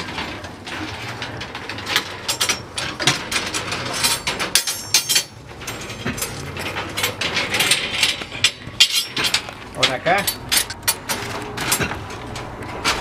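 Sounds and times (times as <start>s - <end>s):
steel bars clinking and scraping: 0.0s - 13.0s.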